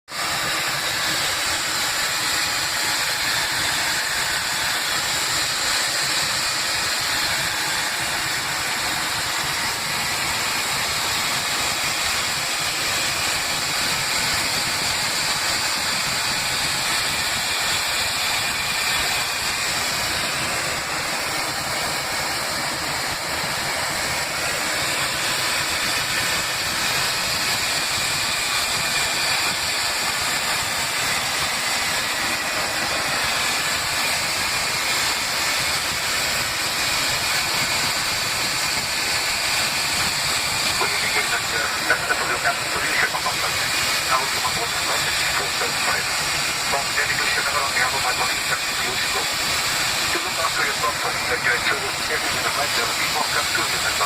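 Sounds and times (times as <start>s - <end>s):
aircraft engine and airflow noise: 0.1s - 54.0s
loud continuous hissing: 0.2s - 54.0s.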